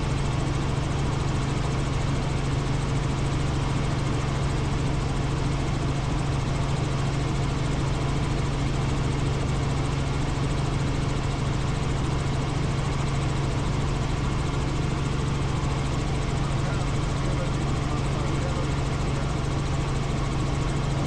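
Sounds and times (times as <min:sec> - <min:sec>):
helicopter engine and rotors: 0:00.0 - 0:21.0.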